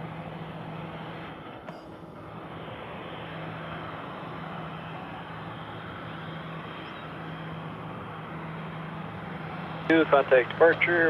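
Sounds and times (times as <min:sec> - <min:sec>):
jet engines running: 0:00.0 - 0:11.0
low hum: 0:00.0 - 0:11.0.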